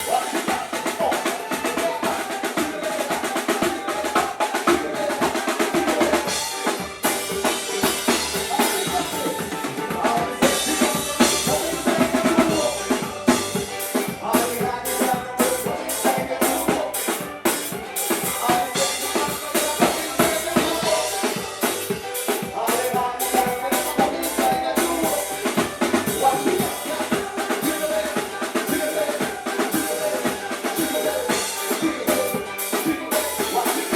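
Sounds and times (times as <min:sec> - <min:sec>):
drum kit hits: 0:00.0 - 0:33.9
live band playing: 0:00.0 - 0:33.9.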